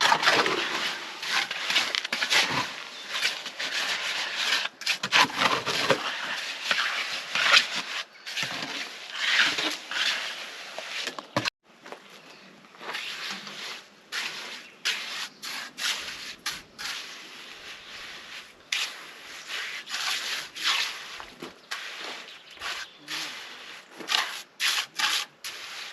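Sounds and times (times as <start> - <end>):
hand tool scraping concrete: 0.0 - 11.5, 12.8 - 25.9.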